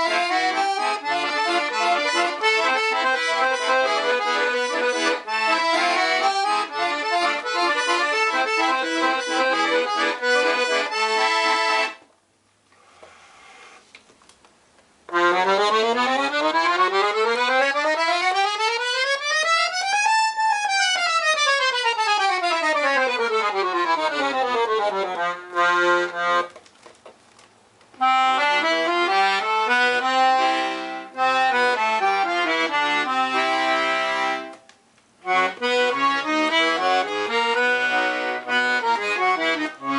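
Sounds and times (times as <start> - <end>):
piano accordion playing: 0.0 - 12.0, 15.1 - 26.6, 28.0 - 39.9.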